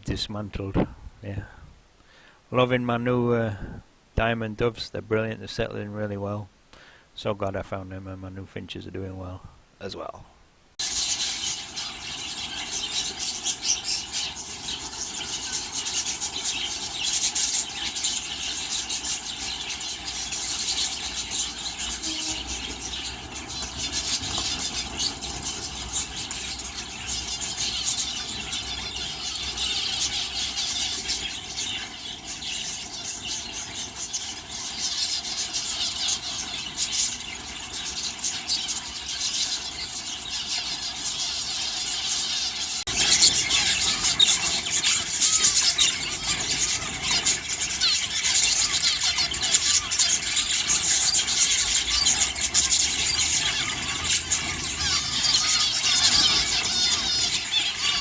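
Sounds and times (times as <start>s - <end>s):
budgerigars chattering and chirping: 10.8s - 58.0s.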